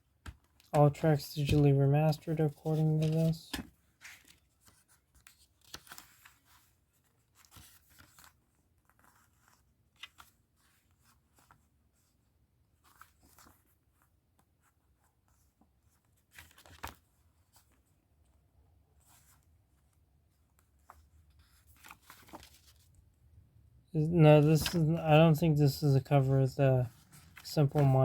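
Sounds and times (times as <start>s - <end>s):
paper booklet rustling: 0.2s - 23.2s, 24.0s - 28.0s.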